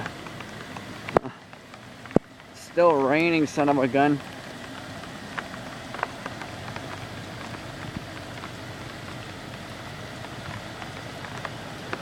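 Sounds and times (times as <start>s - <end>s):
drops ticking near microphone: 0.0s - 12.0s
steady rain hissing: 0.0s - 12.0s.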